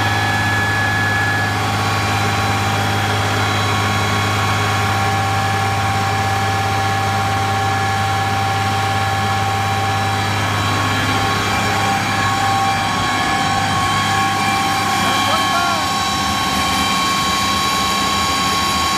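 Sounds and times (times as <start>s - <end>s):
diesel tractor engine humming: 0.0s - 18.9s
steady whine: 0.0s - 18.9s.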